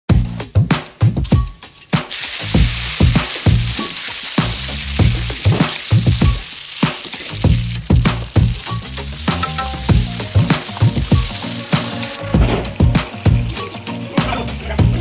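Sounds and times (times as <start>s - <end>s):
vegetables sizzling in hot oil: 0.8s - 15.0s.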